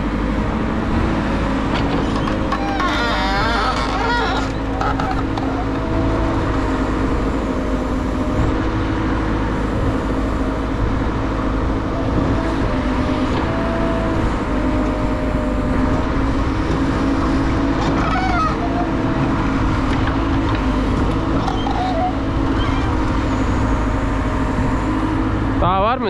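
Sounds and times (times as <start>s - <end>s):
backhoe diesel engine running: 0.0s - 26.0s.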